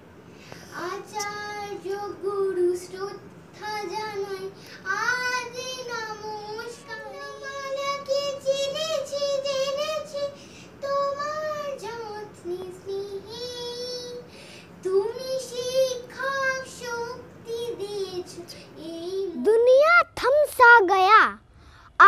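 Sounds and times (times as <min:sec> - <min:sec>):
girl singing: 0:00.6 - 0:20.6.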